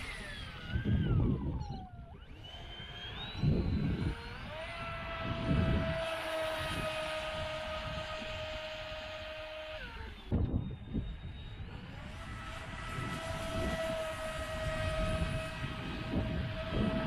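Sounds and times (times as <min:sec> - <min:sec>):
rc boat motor whining: 0:00.0 - 0:17.0
wind buffeting microphone: 0:00.0 - 0:17.0.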